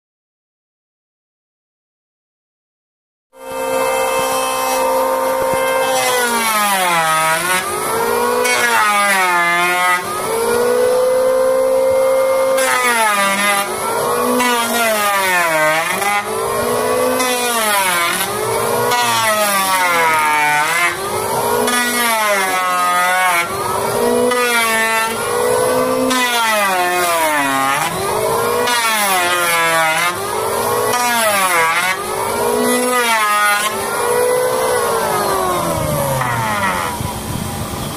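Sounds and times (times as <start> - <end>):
electric wood planer running: 3.4 - 37.9.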